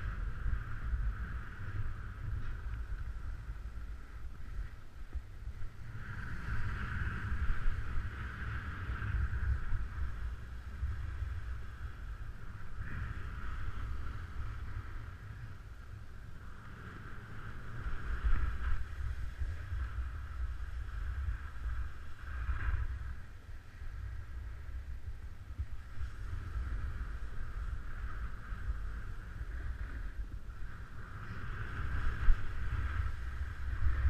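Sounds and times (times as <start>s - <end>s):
snowboard scraping over snow: 0.0s - 34.0s
wind rumble on microphone: 0.0s - 34.0s.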